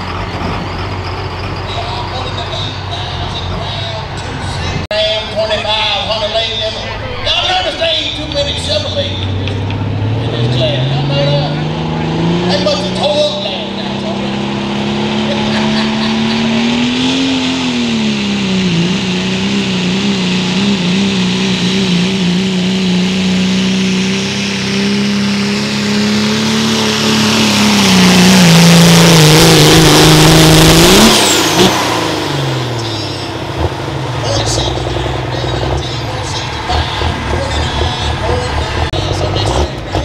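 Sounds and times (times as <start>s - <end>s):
diesel truck engine at full throttle: 0.0s - 40.0s.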